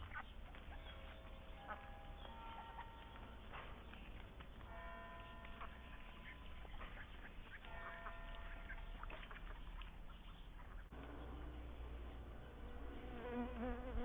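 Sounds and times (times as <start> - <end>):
ducks quacking faintly: 0.0 - 14.0.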